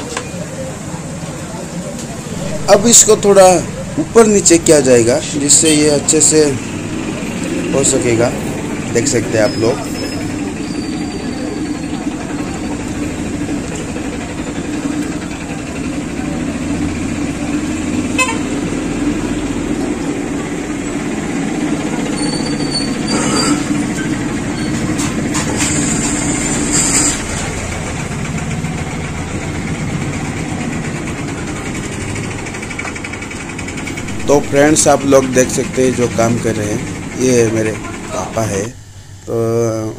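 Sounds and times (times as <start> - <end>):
gas burner roar: 0.0 - 39.9.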